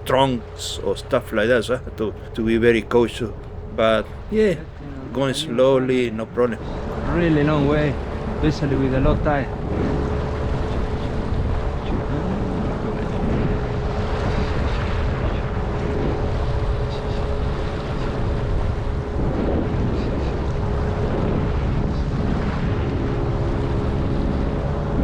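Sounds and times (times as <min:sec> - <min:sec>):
outboard motor running: 0:00.0 - 0:21.8.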